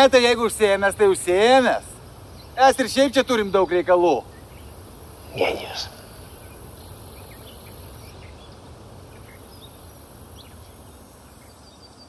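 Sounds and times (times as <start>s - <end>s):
steady high-pitched hiss: 0.0s - 12.0s
faint bird chirps: 2.3s - 12.0s.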